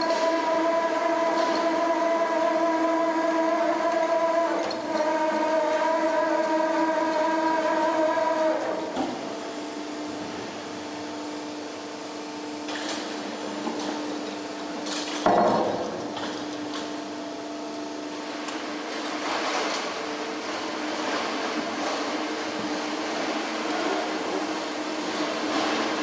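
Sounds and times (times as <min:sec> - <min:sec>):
factory machinery humming: 0:00.0 - 0:26.0.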